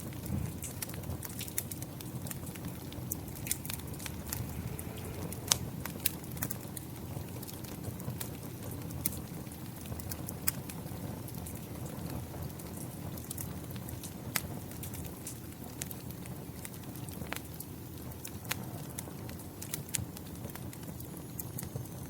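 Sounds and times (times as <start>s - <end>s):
rain falling: 0.0s - 22.0s
sharp pops of fire: 0.0s - 22.0s
wood fire crackling: 0.0s - 22.0s.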